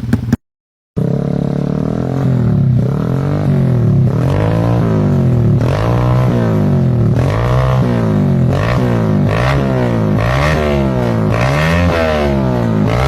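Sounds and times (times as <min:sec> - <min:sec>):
motorcycle engine revving: 0:00.0 - 0:00.4, 0:01.0 - 0:13.0.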